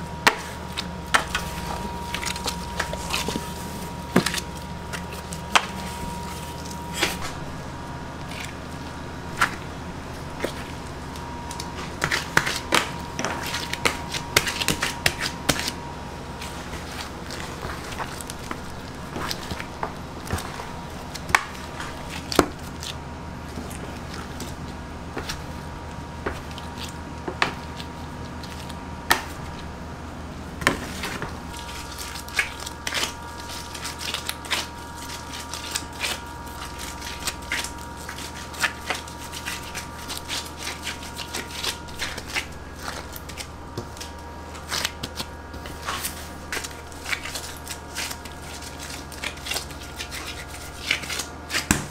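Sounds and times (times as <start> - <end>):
dough being pressed: 0.0 - 7.6, 8.2 - 29.8, 30.6 - 51.9
steady background hum: 0.0 - 51.9.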